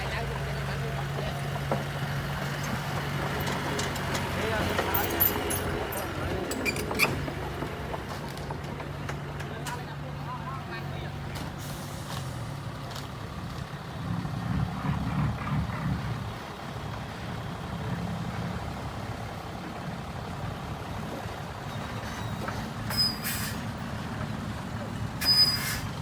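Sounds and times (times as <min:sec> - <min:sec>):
heavy machinery diesel engine: 0:00.0 - 0:26.0.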